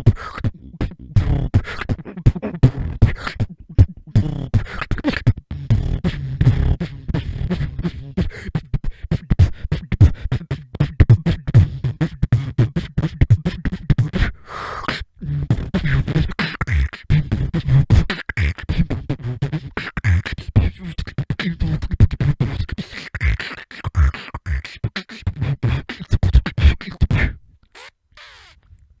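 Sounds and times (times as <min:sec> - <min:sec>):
person beatboxing: 0:00.0 - 0:28.7.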